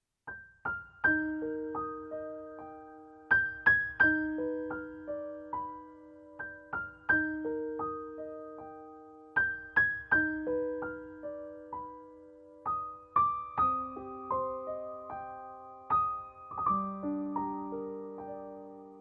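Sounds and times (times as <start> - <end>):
gentle piano melody: 0.3 - 19.0.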